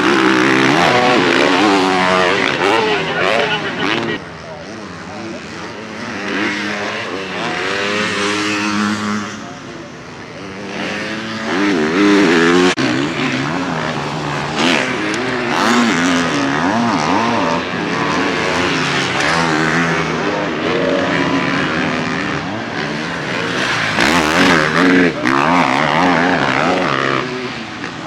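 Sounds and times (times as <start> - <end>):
motocross engines revving: 0.0 - 28.0.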